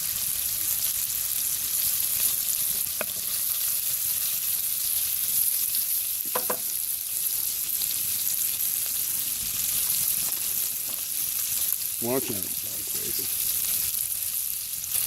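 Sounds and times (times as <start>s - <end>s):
onion and garlic sizzling: 0.0s - 15.0s.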